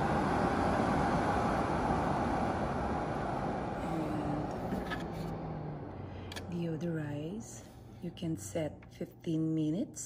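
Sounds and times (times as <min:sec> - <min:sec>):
air purifier fan running: 0:00.0 - 0:10.0.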